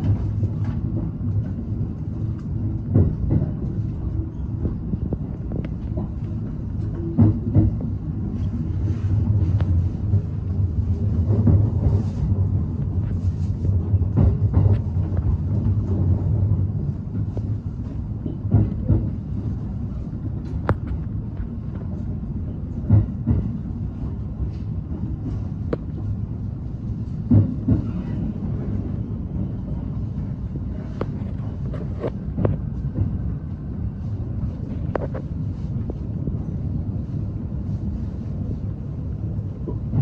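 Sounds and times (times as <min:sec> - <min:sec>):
train rumbling inside carriage: 0:00.0 - 0:40.0.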